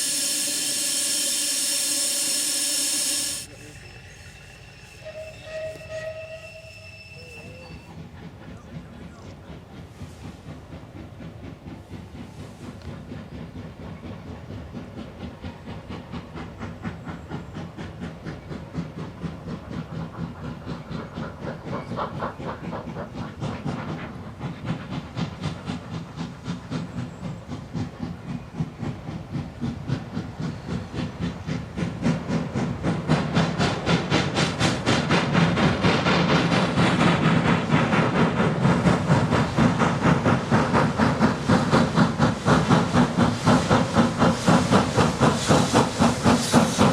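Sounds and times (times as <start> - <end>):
steam locomotive chuffing: 0.0 - 46.9.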